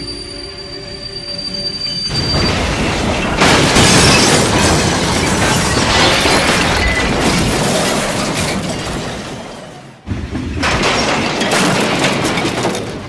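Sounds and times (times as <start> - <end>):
train crash sound effect: 2.1 - 13.0.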